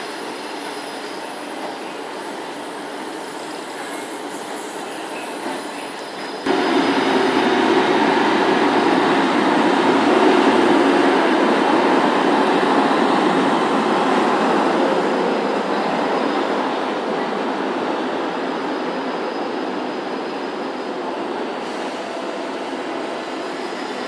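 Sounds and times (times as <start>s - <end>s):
train rushing rail noise: 0.0s - 24.0s.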